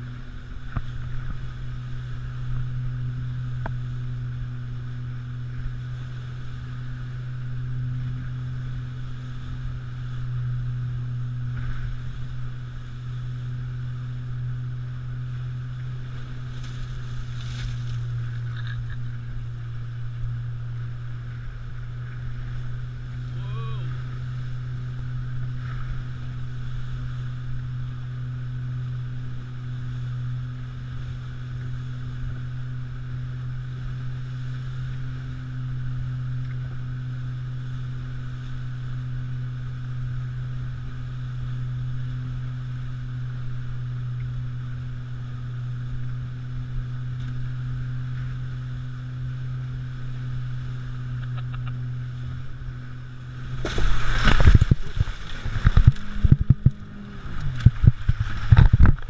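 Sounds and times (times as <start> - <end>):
boat motor droning: 0.0 - 59.0
water and wind hiss: 0.0 - 59.0
wave splashing over boat: 0.0 - 59.0.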